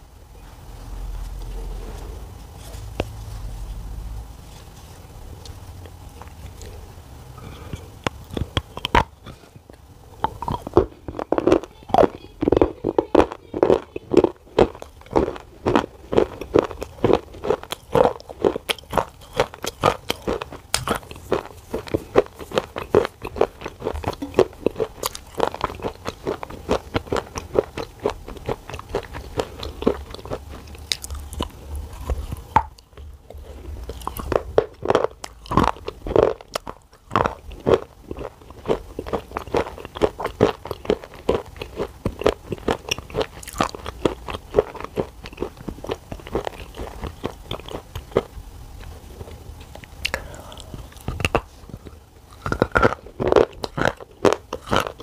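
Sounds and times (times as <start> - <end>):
person chewing crunchy clay: 0.4 - 55.0.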